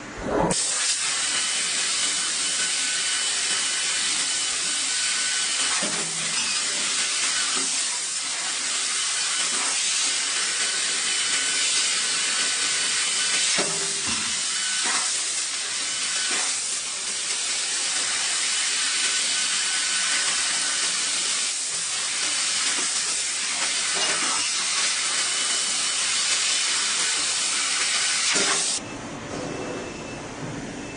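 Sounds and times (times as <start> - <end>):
gas hiss from cutting head: 0.6 - 28.8.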